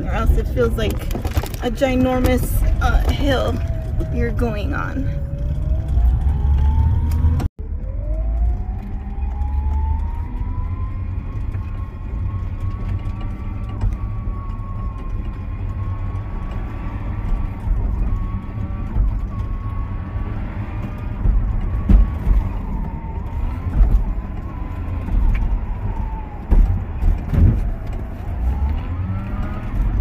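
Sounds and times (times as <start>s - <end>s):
low rumble: 0.0s - 28.8s.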